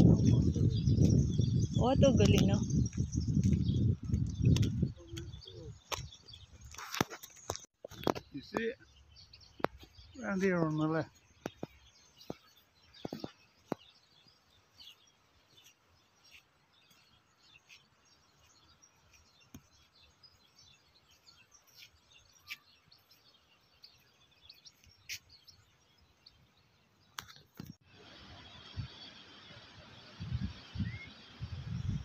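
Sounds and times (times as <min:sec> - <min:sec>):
faint bird chirps: 0:02.6 - 0:32.0.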